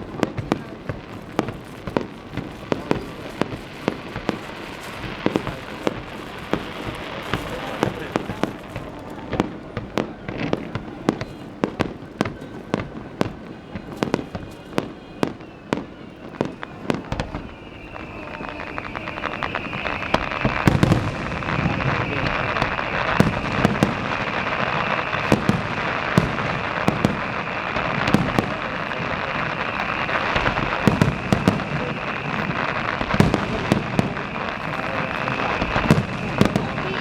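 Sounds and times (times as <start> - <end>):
fireworks crackling: 0.0 - 37.0
high firework whistle: 0.0 - 37.0
firework shells bursting: 0.2 - 10.5, 16.3 - 37.0.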